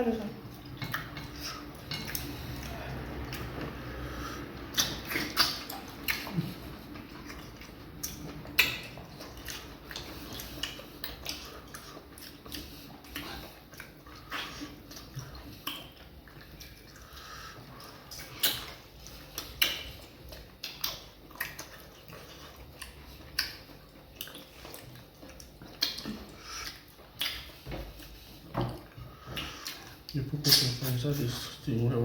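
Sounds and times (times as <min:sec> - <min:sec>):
wet chewing noises: 0:00.0 - 0:32.0
mouth clicks and smacks: 0:04.4 - 0:31.0.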